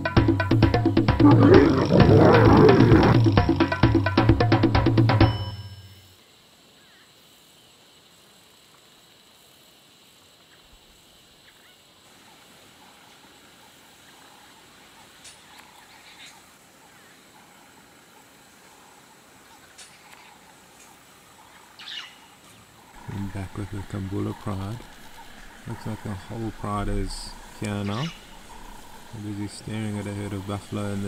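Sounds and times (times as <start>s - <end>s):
distant bird calls: 0.0s - 7.3s, 11.3s - 31.0s
steady low hiss: 0.0s - 31.0s.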